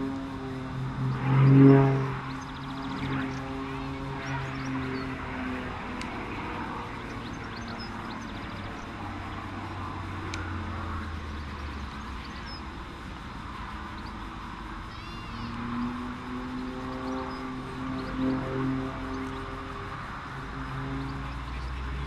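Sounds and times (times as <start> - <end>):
distant propeller plane droning: 0.0 - 22.0
steady outdoor hiss: 0.0 - 22.0.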